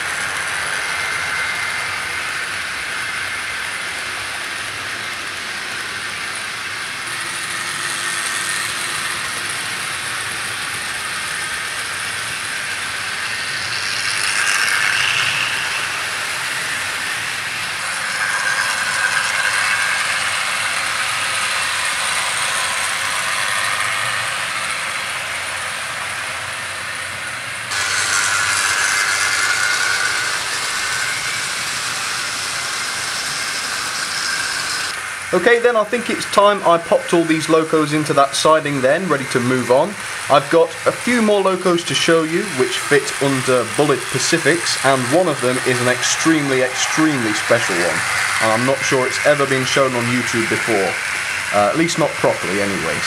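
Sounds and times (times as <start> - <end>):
model train motors whirring: 0.0 - 53.0
wheels rattling over rails: 0.0 - 53.0.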